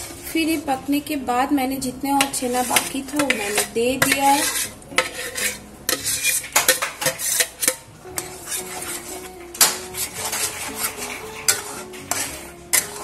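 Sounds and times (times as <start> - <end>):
metal spatula scraping a pan: 2.2 - 13.0
steel bowl clanking on pan rim: 2.2 - 13.0.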